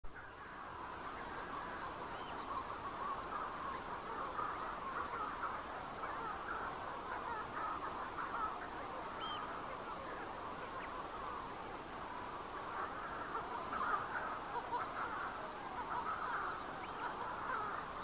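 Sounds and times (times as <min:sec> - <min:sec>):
seabirds calling in chorus: 0:00.1 - 0:18.0.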